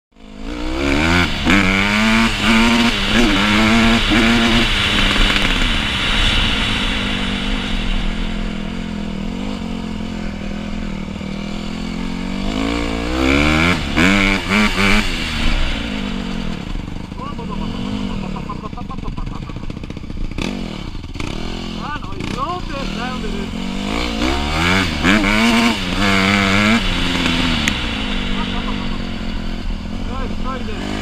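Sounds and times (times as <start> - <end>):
dirt bike engine revving: 0.1 - 31.0.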